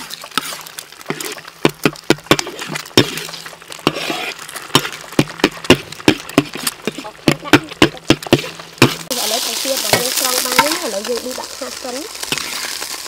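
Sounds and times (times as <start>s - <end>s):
metal spatula scraping a wok: 0.0s - 9.2s, 9.8s - 13.0s.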